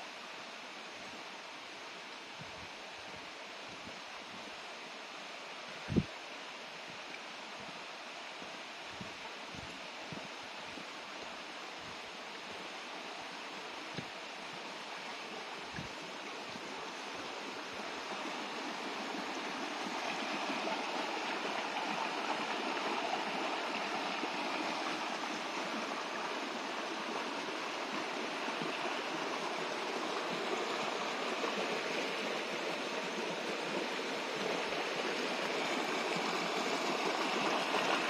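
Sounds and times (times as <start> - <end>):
creek running over gravel: 0.0 - 38.0.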